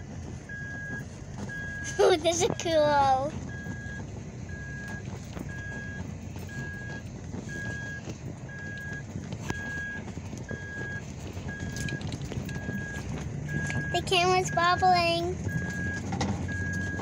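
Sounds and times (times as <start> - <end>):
truck driving over rough ground: 0.0 - 17.0
car warning chime beeping: 0.4 - 17.0.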